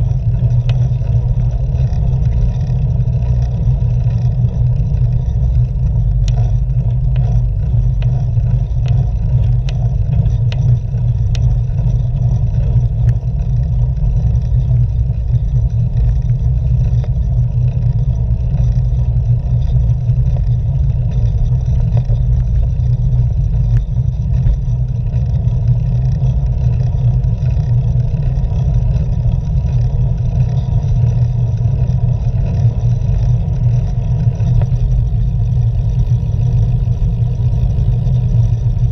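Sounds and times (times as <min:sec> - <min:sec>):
tyre and road noise: 0:00.0 - 0:38.9
wind rumble on microphone: 0:00.0 - 0:38.9.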